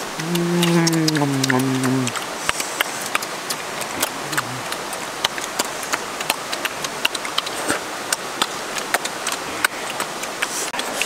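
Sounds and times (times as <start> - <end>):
chewing and lip-smacking: 0.1 - 11.0.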